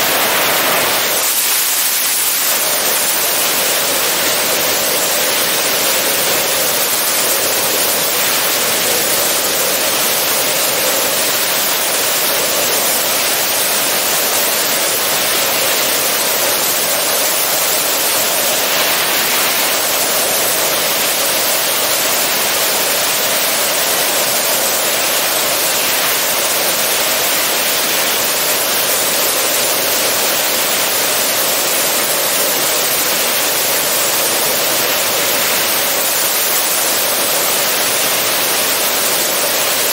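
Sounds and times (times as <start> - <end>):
helicopter rotor and wind noise: 0.0 - 37.8.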